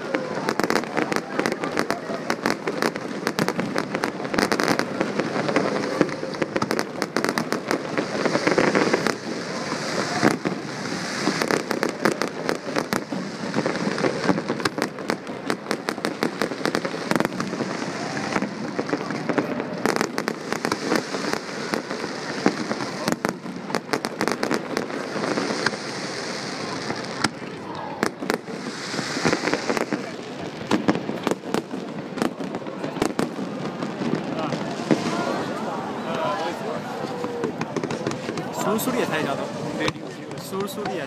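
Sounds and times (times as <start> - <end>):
fireworks crackling and popping: 0.0 - 41.0.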